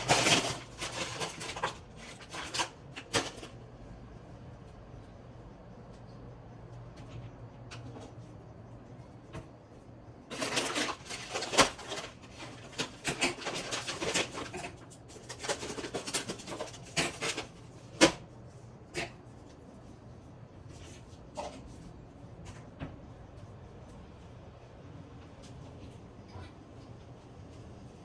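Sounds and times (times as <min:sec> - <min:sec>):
kitchen rustling: 0:00.0 - 0:04.8, 0:06.9 - 0:28.0.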